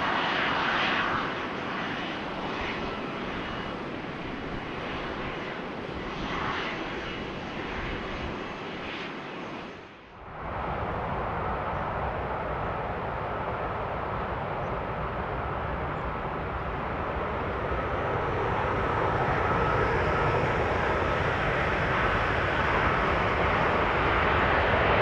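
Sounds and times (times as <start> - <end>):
faint engine whine: 0.0 - 25.0
jet engines running: 0.0 - 25.0
steady outdoor noise: 0.0 - 25.0.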